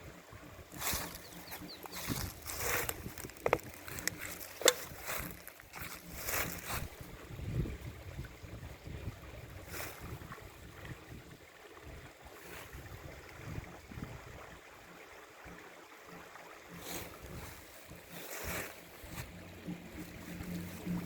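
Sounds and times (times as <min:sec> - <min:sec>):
wind rumbling on microphone: 0:00.0 - 0:15.6, 0:16.7 - 0:21.0
stream babbling over rocks: 0:00.0 - 0:21.0.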